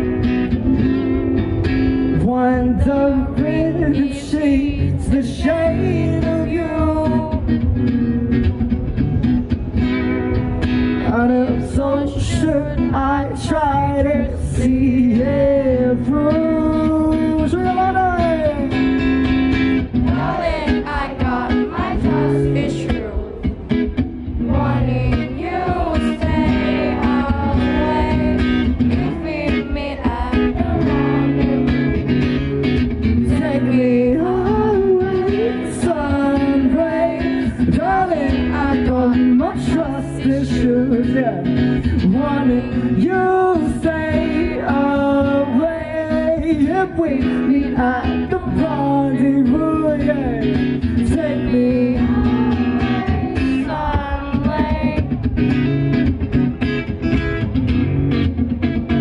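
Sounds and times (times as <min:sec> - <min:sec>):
acoustic guitar strummed and picked: 0:00.0 - 0:59.0
man singing: 0:02.1 - 0:07.6, 0:11.0 - 0:19.1, 0:20.0 - 0:23.6, 0:24.4 - 0:32.2, 0:32.9 - 0:55.2.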